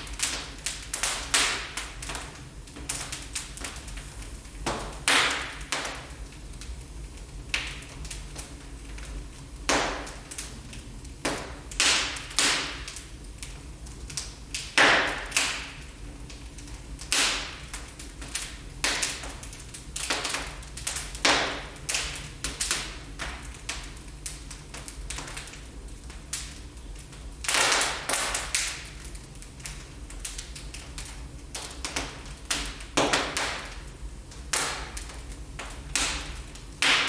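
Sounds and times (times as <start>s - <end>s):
fire pops and snaps: 0.0s - 37.0s
wood fire crackling: 0.0s - 37.0s.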